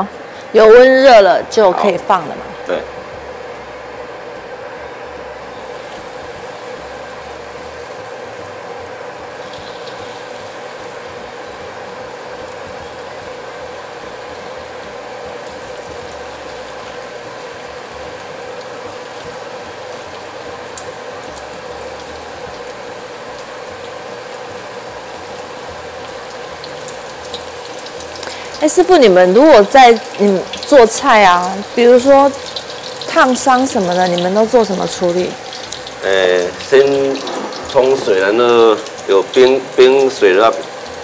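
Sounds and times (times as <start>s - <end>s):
oil sizzling in a wok: 0.0s - 41.0s.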